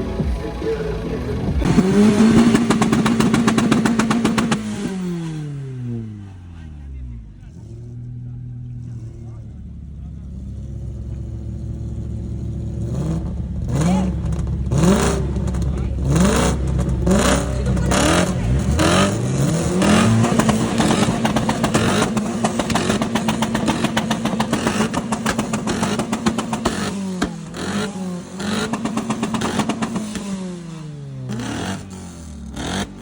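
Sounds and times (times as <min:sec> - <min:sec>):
car engine revving hard: 0:00.0 - 0:33.0
engine crackle: 0:00.0 - 0:33.0.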